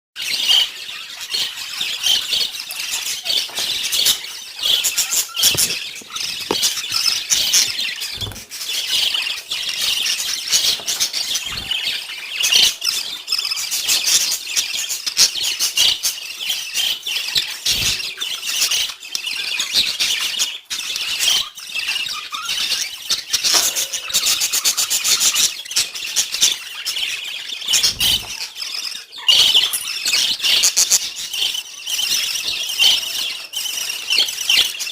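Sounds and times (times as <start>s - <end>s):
budgies chattering and chirping: 0.2s - 34.9s.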